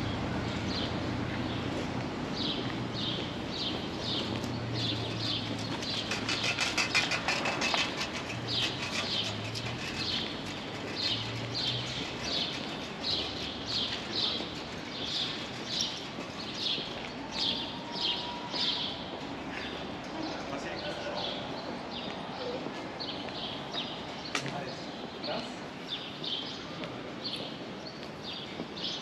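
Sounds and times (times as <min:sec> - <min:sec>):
footsteps on pavement: 0:00.1 - 0:29.0.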